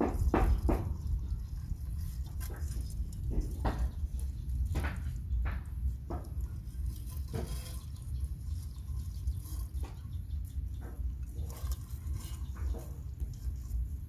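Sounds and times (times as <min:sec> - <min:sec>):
crabs scraping and splashing in basin: 0:00.0 - 0:14.0
steady low rumble: 0:00.0 - 0:14.0.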